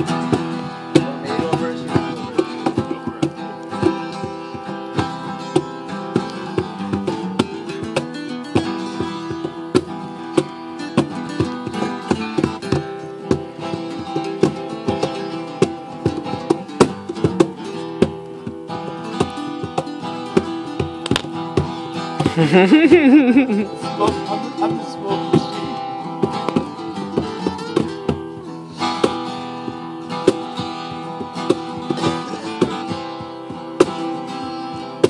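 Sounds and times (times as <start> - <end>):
acoustic guitar: 0.0 - 35.0
plucked string instrument: 0.0 - 35.0.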